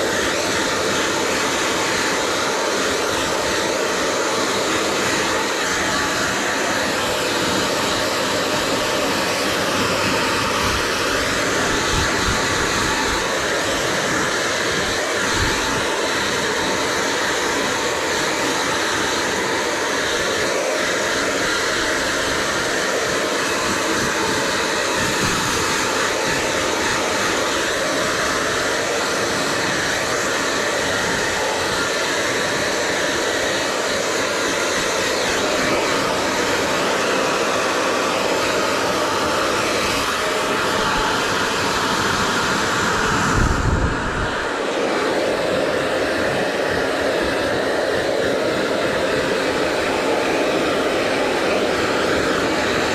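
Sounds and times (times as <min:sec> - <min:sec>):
hair dryer blowing: 0:00.0 - 0:52.9.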